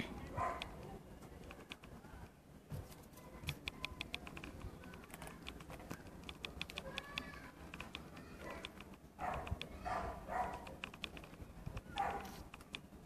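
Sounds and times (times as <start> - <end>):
hamster clicking: 0.5 - 0.8, 1.4 - 2.0, 3.4 - 12.9.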